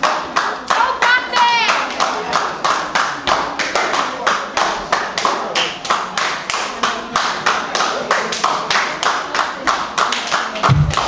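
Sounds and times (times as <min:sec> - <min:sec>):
rhythmic hand clapping: 0:00.0 - 0:11.0.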